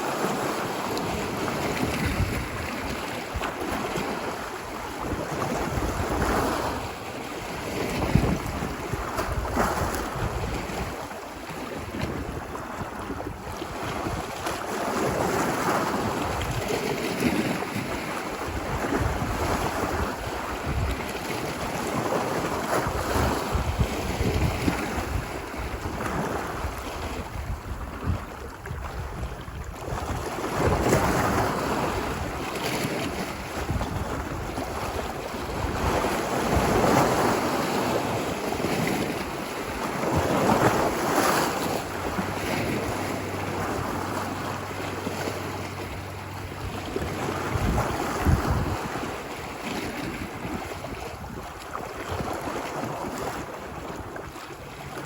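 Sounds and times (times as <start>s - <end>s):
ocean waves on a beach: 0.0s - 55.0s
wind buffeting microphone: 0.0s - 55.0s.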